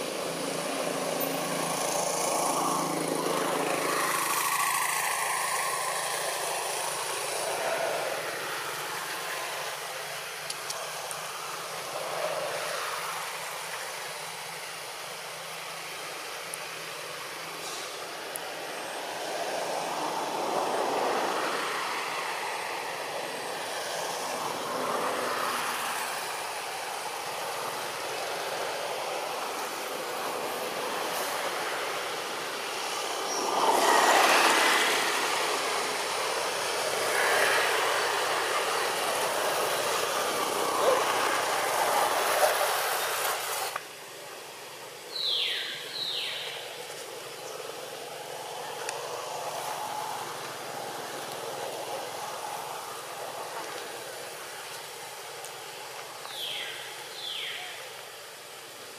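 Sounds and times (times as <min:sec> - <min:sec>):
steady rushing noise: 0:00.0 - 0:58.9.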